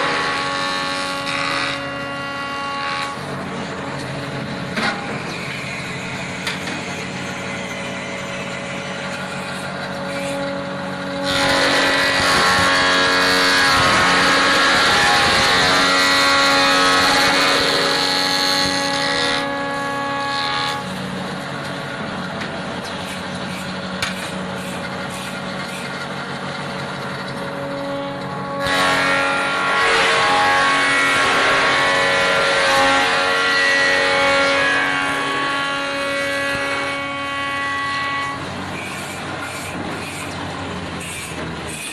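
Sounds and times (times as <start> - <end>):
electric motors humming: 0.0 - 41.9
lathe cutter cutting wood: 0.0 - 41.9.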